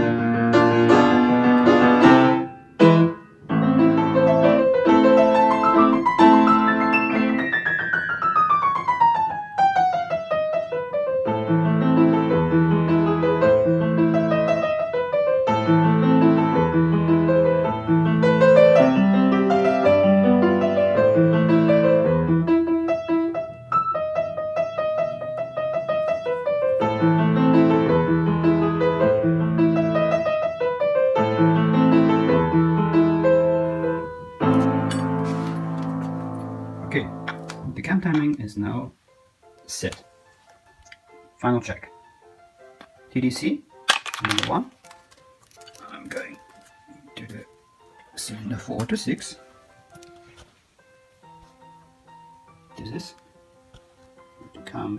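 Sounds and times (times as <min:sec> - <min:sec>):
piano music: 0:00.0 - 0:54.9.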